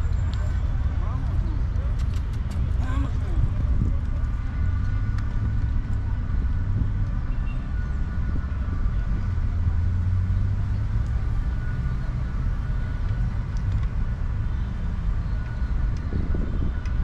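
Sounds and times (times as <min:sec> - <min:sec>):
low rumble of background noise: 0:00.0 - 0:17.0.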